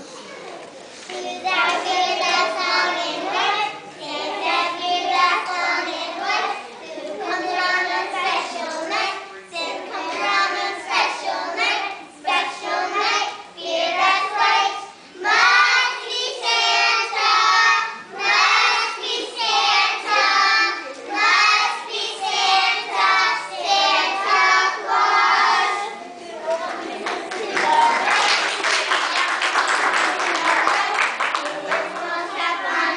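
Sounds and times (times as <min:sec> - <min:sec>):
children singing together: 0:01.0 - 0:28.4, 0:31.4 - 0:32.9.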